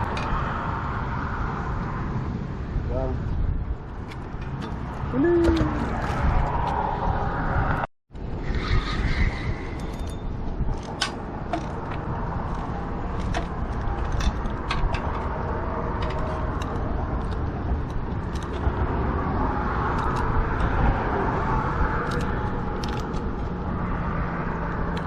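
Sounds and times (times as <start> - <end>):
low outdoor background rumble: 0.0 - 25.0.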